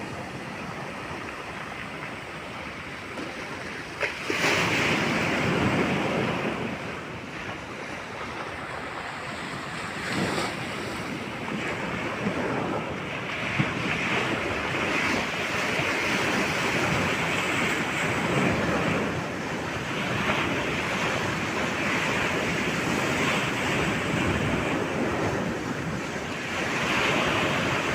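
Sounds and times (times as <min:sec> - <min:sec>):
heavy surf breaking: 0:00.0 - 0:27.9
wind buffeting microphone: 0:00.0 - 0:27.9.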